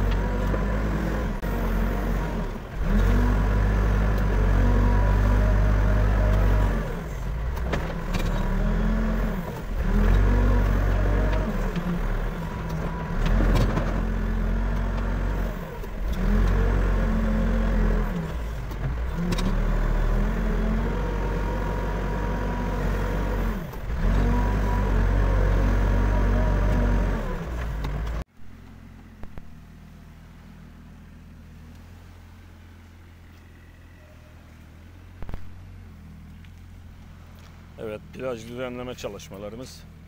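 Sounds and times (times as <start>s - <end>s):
diesel engine running under load: 0.0s - 40.0s.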